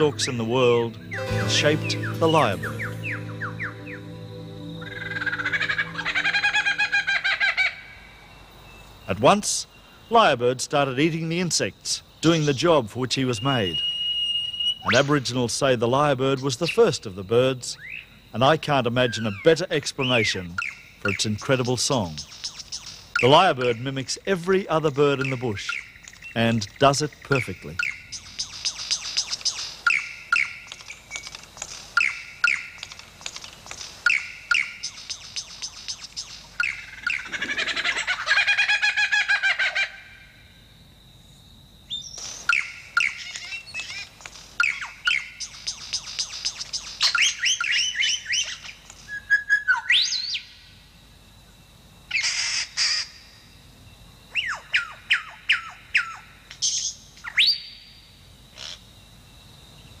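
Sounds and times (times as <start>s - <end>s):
lyrebird singing: 0.0s - 40.3s, 41.9s - 50.6s, 52.1s - 53.3s, 54.2s - 58.9s.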